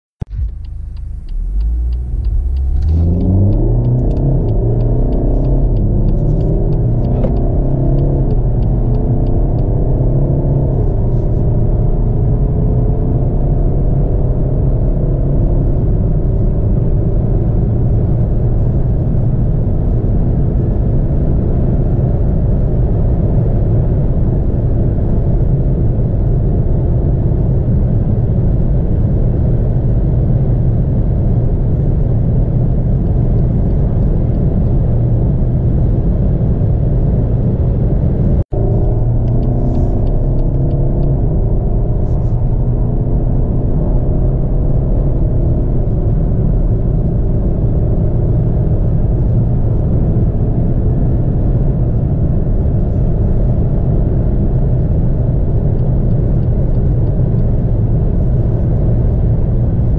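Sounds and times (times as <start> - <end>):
car engine accelerating: 0.2 - 59.9
road noise: 0.2 - 59.9.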